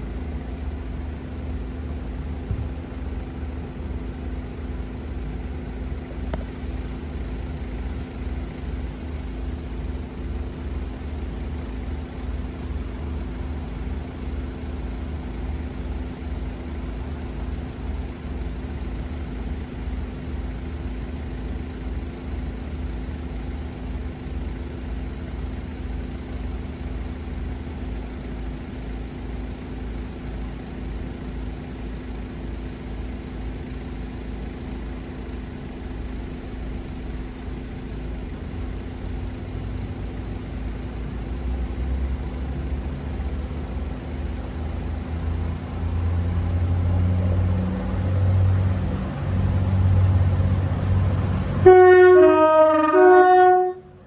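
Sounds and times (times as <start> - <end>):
constant hum: 0.0 - 47.0, 47.7 - 54.0
diesel train engine idling: 0.0 - 54.0.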